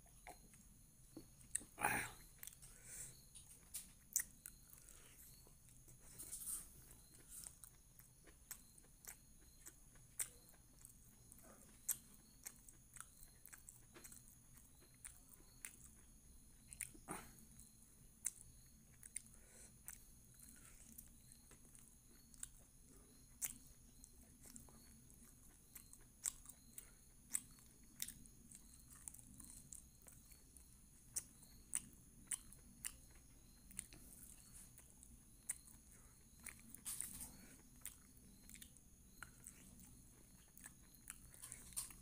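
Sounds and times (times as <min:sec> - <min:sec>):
person chewing with wet smacks: 0:00.0 - 0:42.0.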